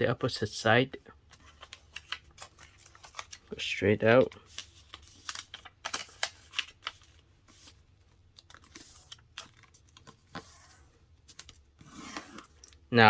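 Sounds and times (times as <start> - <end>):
paper crinkling: 1.3 - 12.8.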